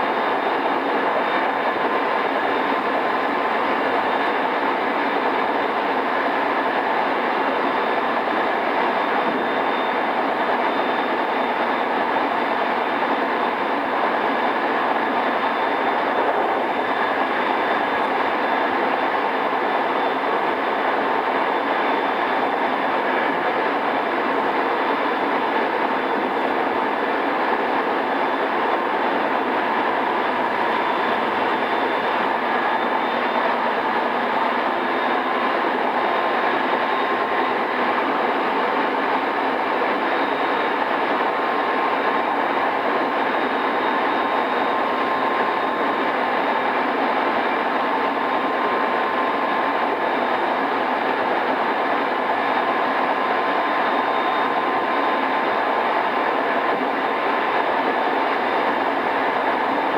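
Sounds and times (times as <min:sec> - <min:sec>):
electric train running: 0:00.0 - 0:59.9
faint steady tones: 0:00.0 - 0:59.9.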